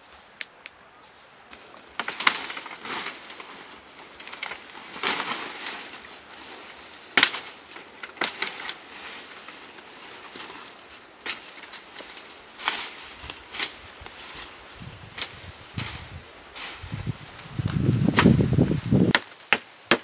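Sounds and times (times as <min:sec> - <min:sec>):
leaf rustling: 0:00.0 - 0:20.0
twigs snapping underfoot: 0:01.5 - 0:20.0.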